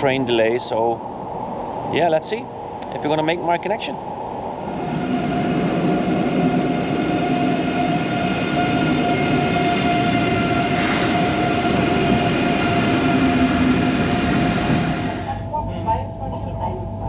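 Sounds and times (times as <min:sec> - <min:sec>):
train wheels rumbling: 0:00.0 - 0:15.6
electric train whine: 0:00.0 - 0:17.0.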